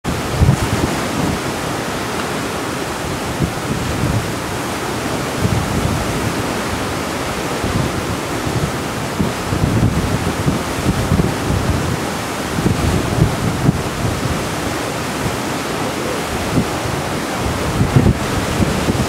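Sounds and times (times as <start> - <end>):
seawater rushing along hull: 0.0 - 19.0
wind buffeting microphone: 0.0 - 19.0.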